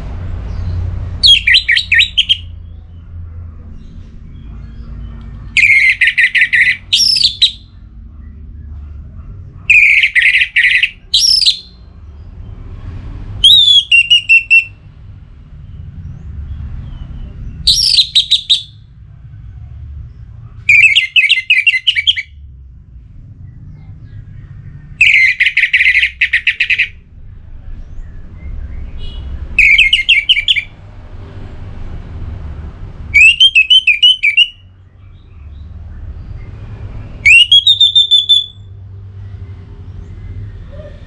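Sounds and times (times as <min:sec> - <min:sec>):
bird singing: 0:00.4 - 0:12.6, 0:13.4 - 0:14.8, 0:15.6 - 0:18.8, 0:20.1 - 0:22.6, 0:23.3 - 0:30.8, 0:33.1 - 0:41.0.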